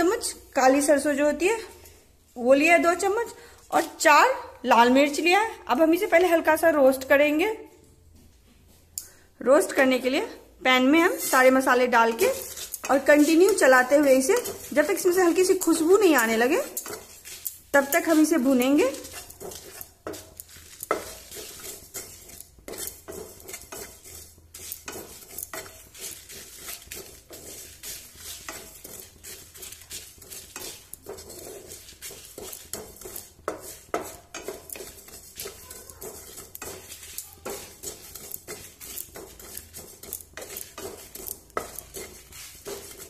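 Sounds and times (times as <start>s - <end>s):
spatula scraping spices in pan: 0.0s - 7.2s, 9.0s - 43.0s.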